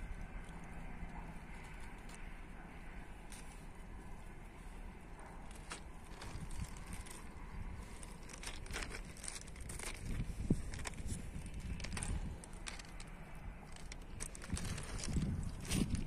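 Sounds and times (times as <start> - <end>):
footsteps crunching on gravel: 0.0 - 16.0
low steady rumble: 0.0 - 16.0.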